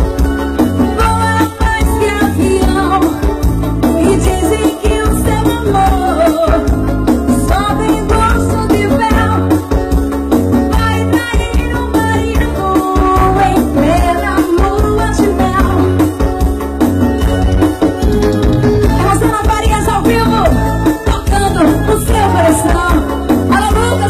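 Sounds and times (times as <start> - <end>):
live band playing: 0.0 - 24.0
woman singing into a microphone: 0.7 - 9.8, 10.6 - 16.3, 18.9 - 24.0.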